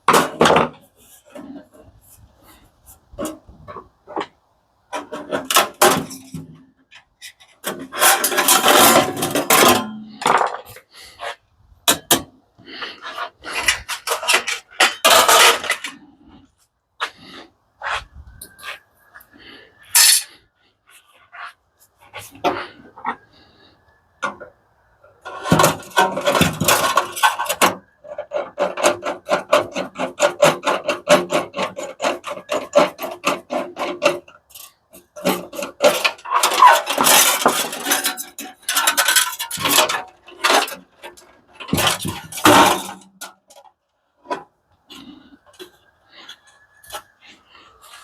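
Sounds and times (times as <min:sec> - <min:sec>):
tools clicking and scraping metal: 0:04.9 - 0:16.4, 0:17.8 - 0:23.2, 0:25.2 - 0:48.0.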